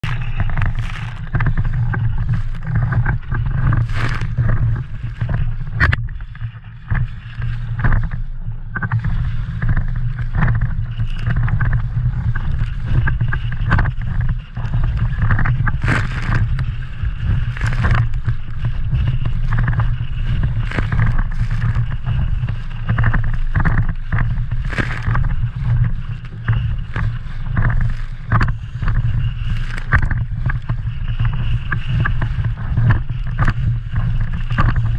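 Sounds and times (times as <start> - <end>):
water splashing and slapping: 0.0 - 34.9
wind rumble on microphone: 0.0 - 34.9.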